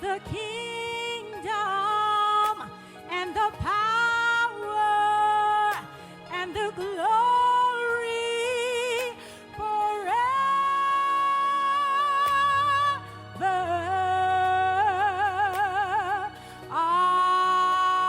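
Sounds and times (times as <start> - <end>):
person singing worship song: 0.0 - 18.0.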